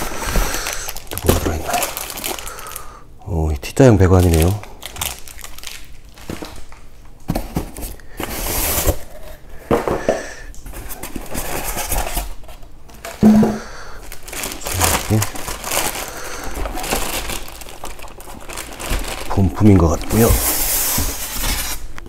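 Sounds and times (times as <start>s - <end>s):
plastic packaging crinkling: 0.0s - 3.0s, 3.8s - 9.3s, 10.5s - 22.0s.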